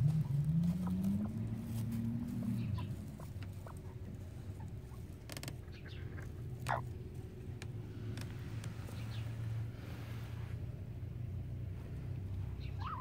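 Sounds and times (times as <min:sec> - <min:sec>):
hens rustling in bedding: 0:00.0 - 0:10.8
low steady hum: 0:00.0 - 0:13.0.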